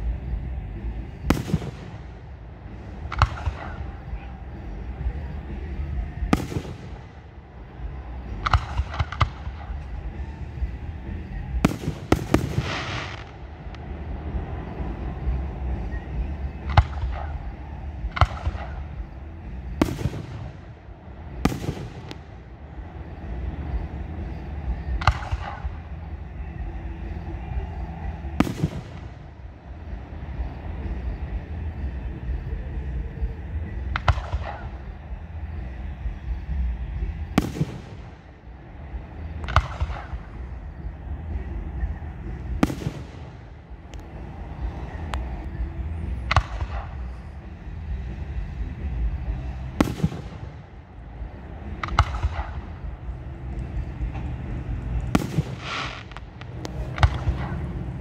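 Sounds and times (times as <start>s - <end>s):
low rumble: 0.0s - 58.0s
fireworks bursting with sharp bangs: 0.5s - 33.0s, 33.6s - 58.0s.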